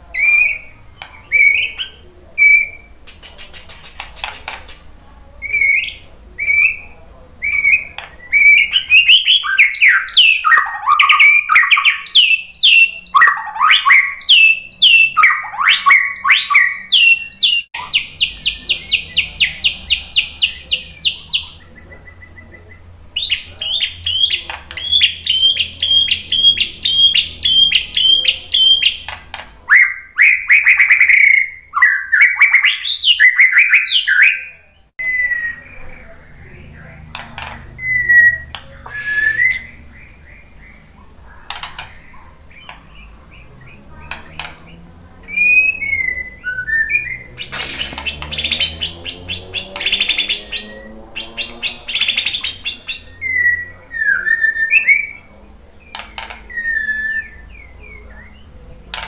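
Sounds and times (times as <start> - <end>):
bird singing whistled phrases: 0.2 - 3.0, 5.4 - 29.1, 29.7 - 36.1, 37.8 - 40.9, 45.2 - 55.3, 55.9 - 58.5.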